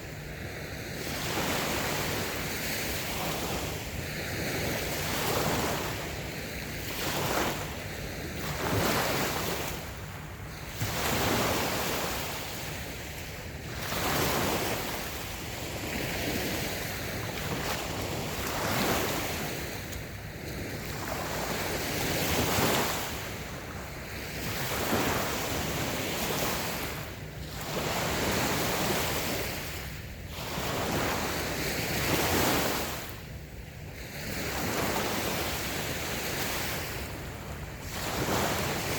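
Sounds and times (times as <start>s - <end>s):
small waves breaking on a beach: 0.0s - 38.9s
wind on the microphone: 0.0s - 38.9s.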